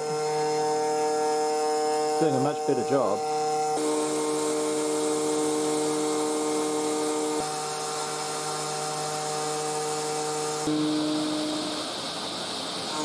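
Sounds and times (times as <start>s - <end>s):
router spindle whining cut: 0.0s - 13.0s.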